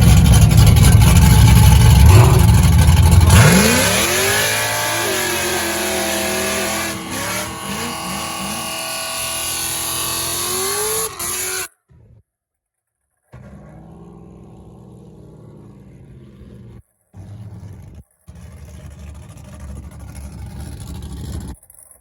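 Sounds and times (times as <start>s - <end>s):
car engines accelerating hard: 0.0s - 11.7s, 13.8s - 21.6s.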